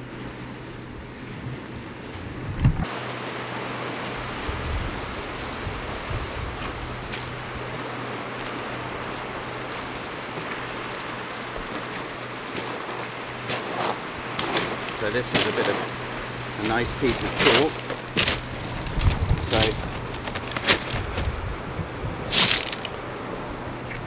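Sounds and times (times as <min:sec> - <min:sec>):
steady rushing noise: 0:02.1 - 0:24.0.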